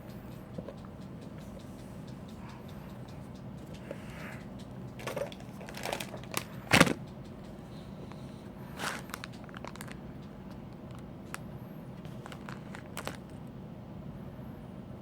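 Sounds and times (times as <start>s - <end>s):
steady low hum: 0.0s - 15.0s
rustling and clicking of handling: 0.1s - 13.5s.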